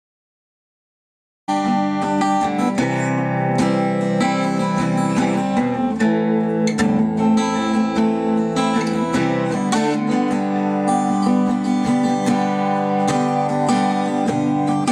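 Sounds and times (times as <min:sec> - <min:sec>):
acoustic guitar chords: 0:01.5 - 0:14.9.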